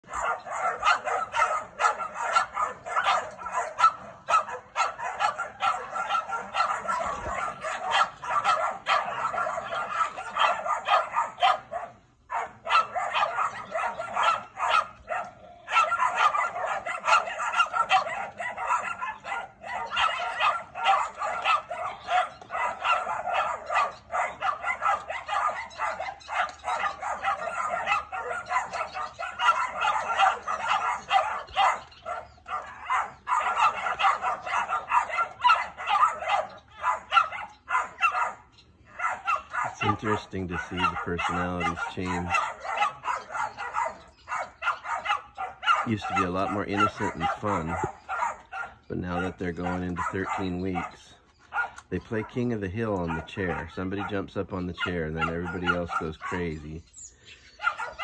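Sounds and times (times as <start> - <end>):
puppies barking and yapping: 0.0 - 58.0.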